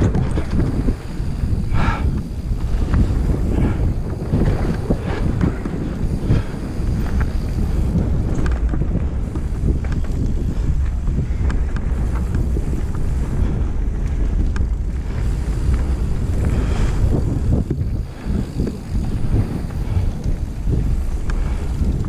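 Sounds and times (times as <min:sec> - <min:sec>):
bike clicks and rattles: 0:00.0 - 0:22.0
bike rumbling on dirt trail: 0:00.0 - 0:22.0
wind buffeting microphone: 0:00.0 - 0:22.0.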